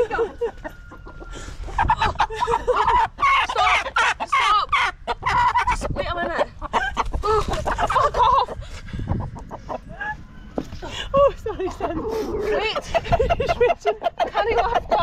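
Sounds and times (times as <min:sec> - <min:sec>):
chickens squawking and clucking: 0:00.0 - 0:15.0.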